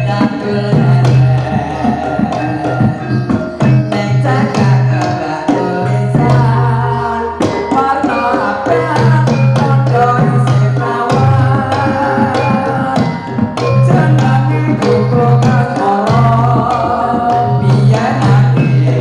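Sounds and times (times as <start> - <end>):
hand drums beating: 0.0 - 19.0
other instruments: 0.0 - 19.0
people singing: 0.0 - 19.0.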